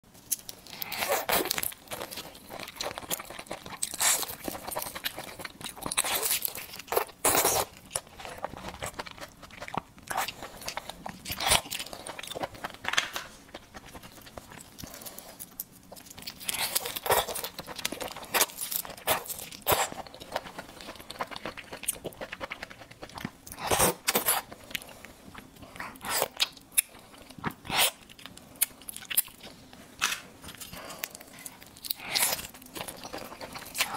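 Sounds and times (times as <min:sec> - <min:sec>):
crunching and chewing: 0:00.2 - 0:33.9.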